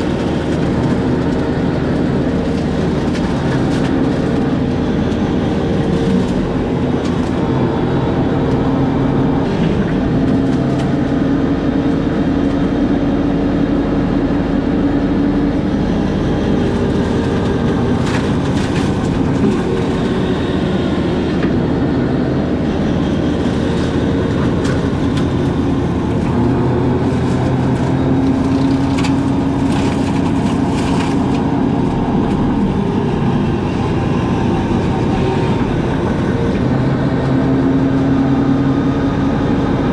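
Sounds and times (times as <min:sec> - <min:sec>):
brush cutter engine running: 0:00.0 - 0:14.3, 0:15.0 - 0:39.9.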